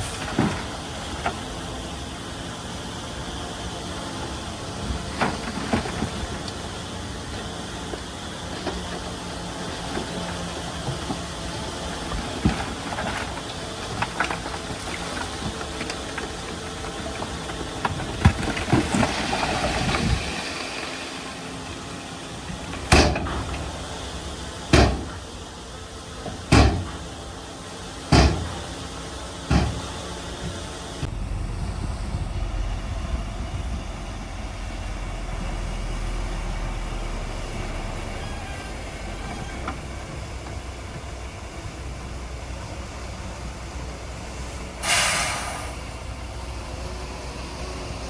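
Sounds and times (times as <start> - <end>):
bulldozer engine running: 0.0 - 48.0.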